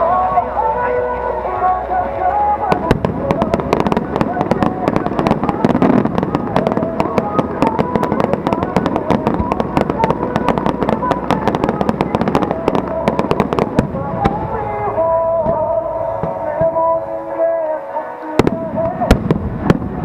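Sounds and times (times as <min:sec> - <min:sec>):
fireworks crackling: 0:00.0 - 0:20.0
show music: 0:00.0 - 0:20.0.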